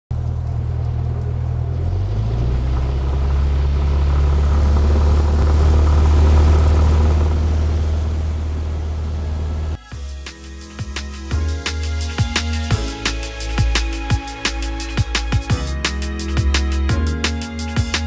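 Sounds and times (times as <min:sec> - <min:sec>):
propeller airplane engine drone: 0:00.1 - 0:18.0.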